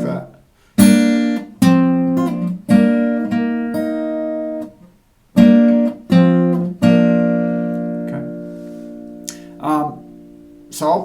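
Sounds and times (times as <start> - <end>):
fingerpicked acoustic guitar chords: 0.0 - 11.0.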